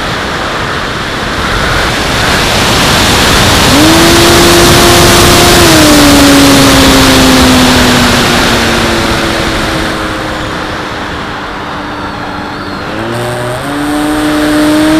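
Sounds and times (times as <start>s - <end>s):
electric motor and propeller hum: 0.0s - 14.9s
wind rush over microphone: 0.0s - 14.9s.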